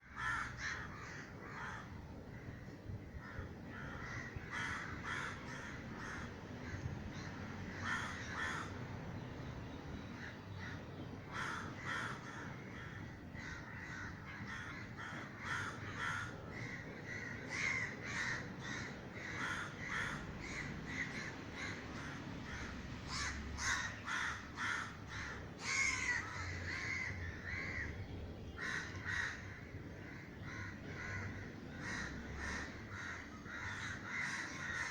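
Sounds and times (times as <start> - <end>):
crows cawing: 0.0 - 9.0, 10.1 - 34.9.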